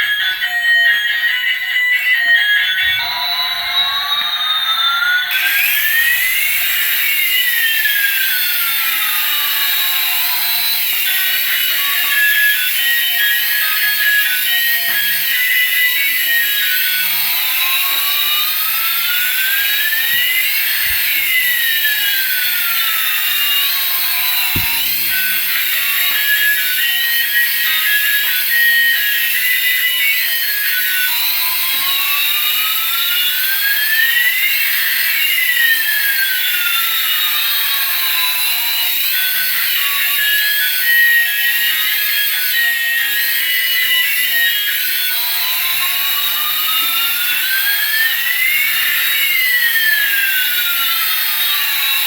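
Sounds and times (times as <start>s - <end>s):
toy synthesized sweeping tones: 0.0s - 52.0s.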